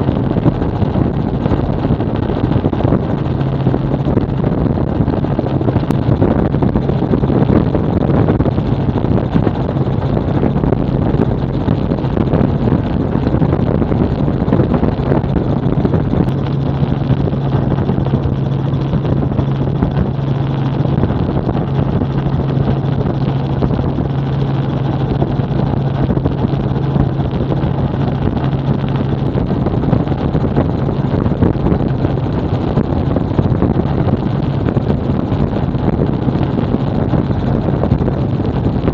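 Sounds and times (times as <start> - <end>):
helicopter rotor and engine: 0.0 - 38.9
steady low hum: 0.0 - 38.9
wind buffeting microphone: 0.0 - 38.9.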